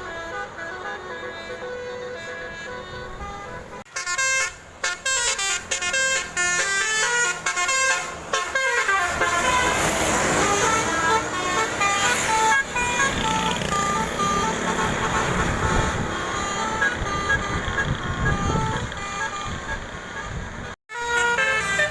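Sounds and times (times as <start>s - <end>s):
engine and road noise: 0.0s - 21.9s
multi-tone bus horn tune: 0.0s - 21.9s.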